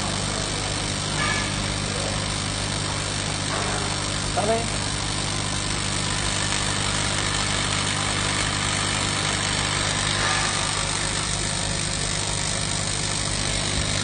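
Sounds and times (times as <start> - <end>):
welding machine humming and hissing: 0.0 - 14.0.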